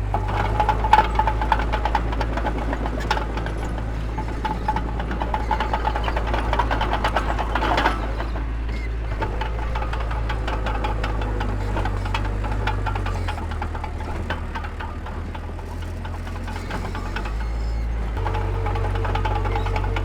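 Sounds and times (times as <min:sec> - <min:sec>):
clanking and rattling: 0:00.0 - 0:20.0
diesel machinery rumbling: 0:00.0 - 0:20.0.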